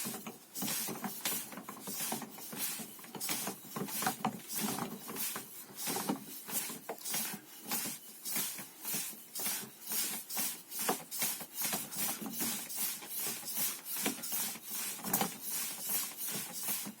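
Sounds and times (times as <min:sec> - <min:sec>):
hands and sleeves swishing and slapping: 0:00.0 - 0:17.0.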